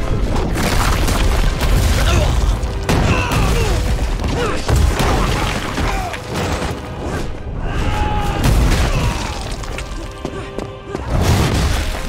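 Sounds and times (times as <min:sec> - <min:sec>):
film score music: 0:00.0 - 0:12.0.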